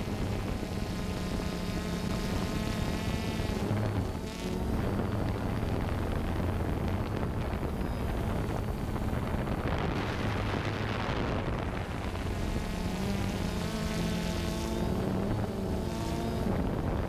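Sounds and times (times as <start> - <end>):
electric motors and propellers humming: 0.0 - 17.0
wind rushing over microphone: 0.0 - 17.0.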